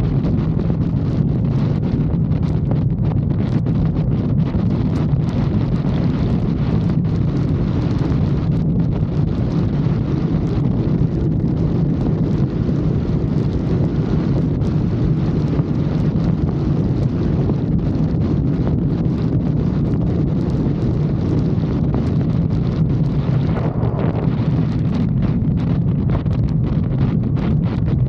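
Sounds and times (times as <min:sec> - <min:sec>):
motorcycle engine running: 0:00.0 - 0:28.0
wind buffeting microphone: 0:00.0 - 0:28.0.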